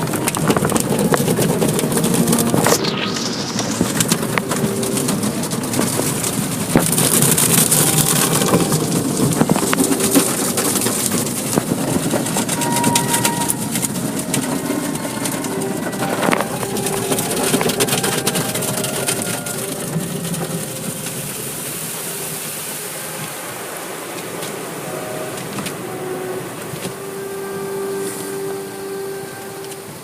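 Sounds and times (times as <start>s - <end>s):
car wash machinery and spray: 0.0s - 30.0s.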